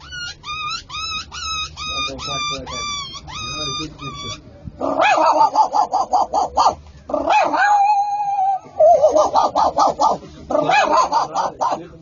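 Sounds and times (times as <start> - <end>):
man imitating dog yips: 0.0 - 11.8.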